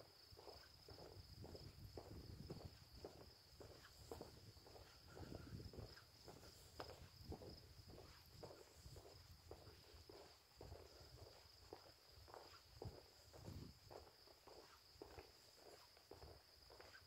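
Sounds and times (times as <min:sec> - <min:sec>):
night insects chirring: 0:00.0 - 0:17.0
soft footsteps: 0:00.0 - 0:17.0.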